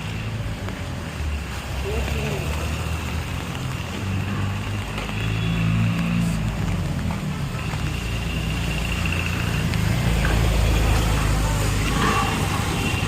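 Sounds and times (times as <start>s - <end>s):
vehicles passing by: 0.0s - 13.0s.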